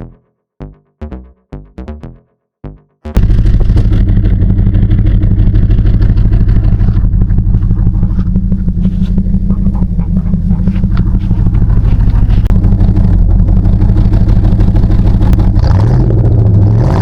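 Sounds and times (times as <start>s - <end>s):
car engine idling: 3.2s - 17.0s.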